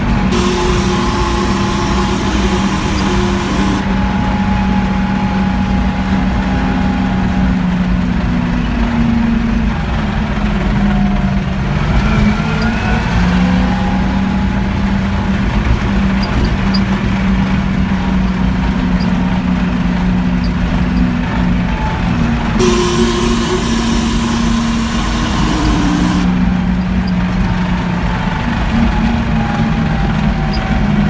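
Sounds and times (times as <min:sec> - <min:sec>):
tractor diesel engine drone: 0:00.0 - 0:31.0.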